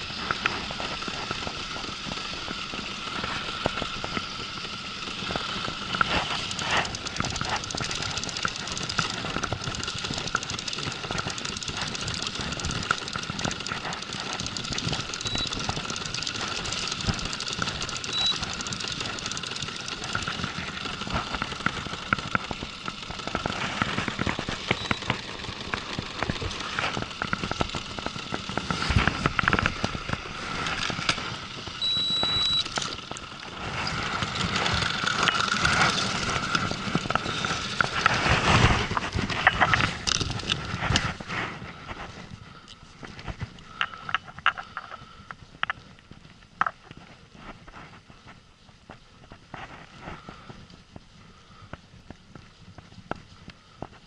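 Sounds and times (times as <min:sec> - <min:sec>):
fishing reel clicking and knocking: 0:00.0 - 0:41.3, 0:43.6 - 0:45.8
steady mechanical drone: 0:00.0 - 0:54.0.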